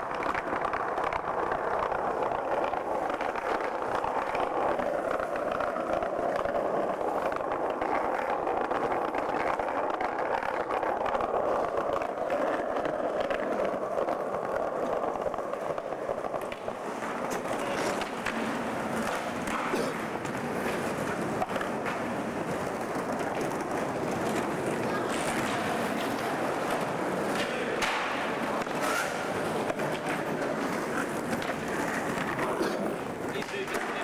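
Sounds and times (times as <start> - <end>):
skateboard wheels rolling on pavement: 0.0 - 34.0.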